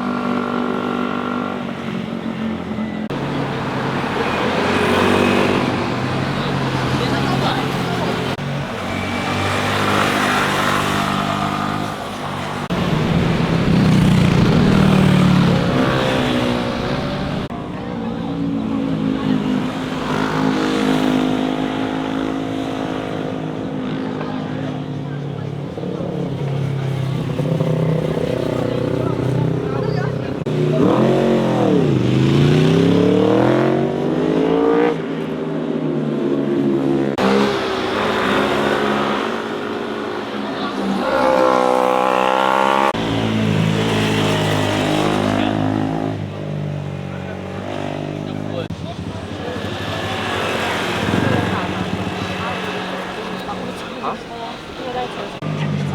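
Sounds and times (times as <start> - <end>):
motorcycle engines passing: 0.0 - 55.9.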